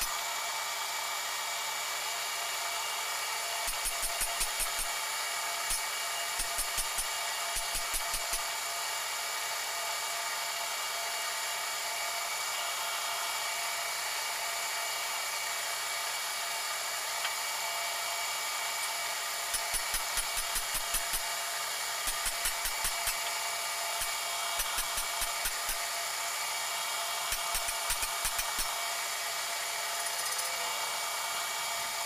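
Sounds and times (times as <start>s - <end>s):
lathe spindle whine: 0.0s - 32.0s.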